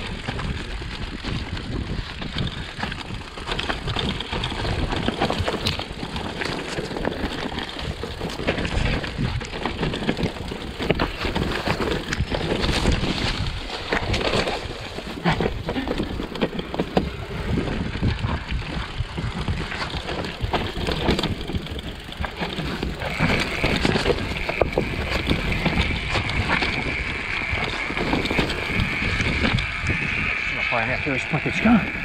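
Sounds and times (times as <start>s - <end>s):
mountain bike rattling over rocks: 0.0s - 32.0s
tyre noise on dirt: 0.0s - 32.0s.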